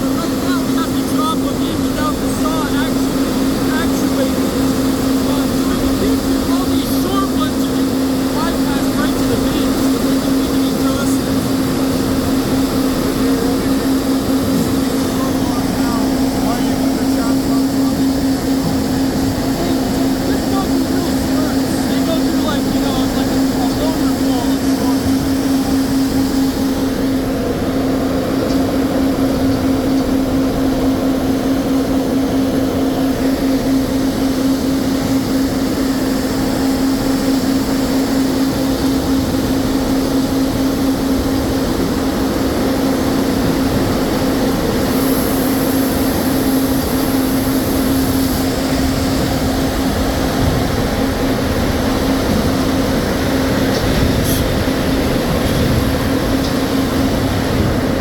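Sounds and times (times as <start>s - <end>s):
sawmill machinery hum: 0.0s - 58.0s
thin high whine: 0.0s - 58.0s.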